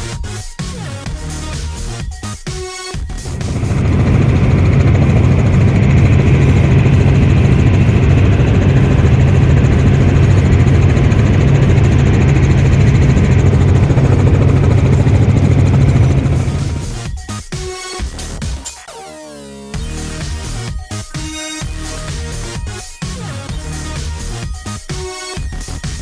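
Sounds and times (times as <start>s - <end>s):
helicopter engine and rotor drone: 2.9s - 17.8s, 19.8s - 25.8s.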